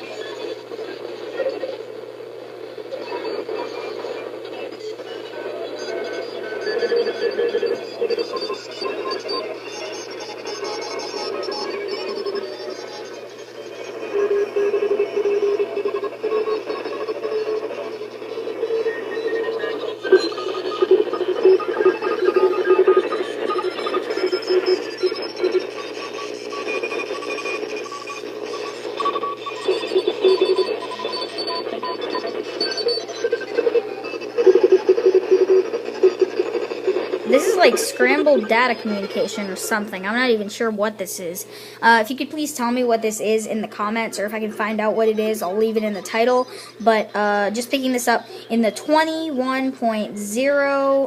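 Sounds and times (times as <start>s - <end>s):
overlapping radio beeping tones: 0.0s - 51.0s.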